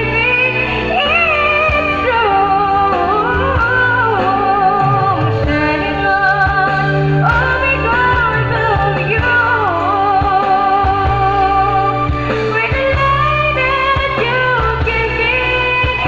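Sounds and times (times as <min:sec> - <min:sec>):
instrumental backing music: 0:00.0 - 0:16.0
woman singing: 0:00.0 - 0:16.0.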